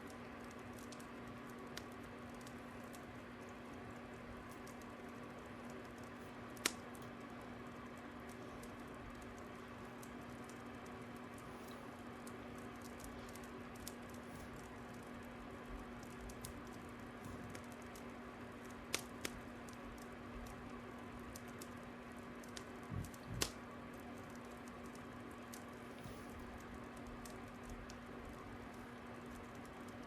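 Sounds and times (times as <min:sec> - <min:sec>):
fire crackling and popping: 0:00.0 - 0:30.0
steady low hum: 0:00.0 - 0:30.0.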